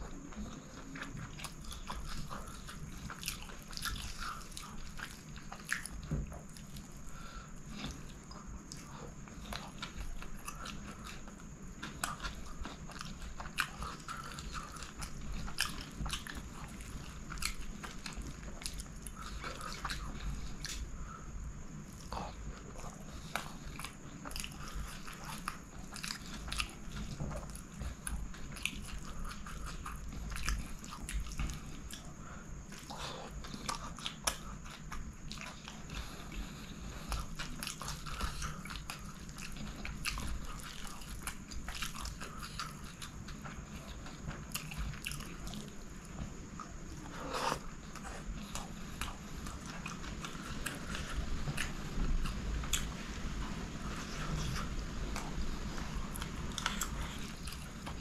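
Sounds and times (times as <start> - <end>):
wet chewing and mouth clicks: 0.0 - 58.0.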